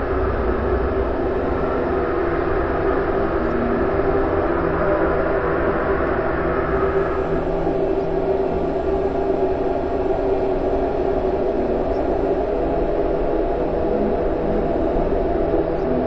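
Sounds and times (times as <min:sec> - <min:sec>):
distorted noise music drone: 0:00.0 - 0:16.0.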